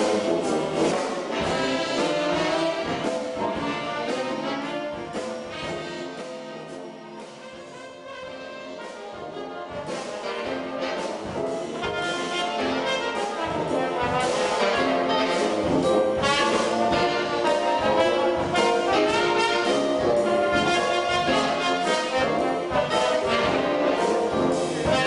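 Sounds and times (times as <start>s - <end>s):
brass band playing jazz: 0.0s - 25.0s.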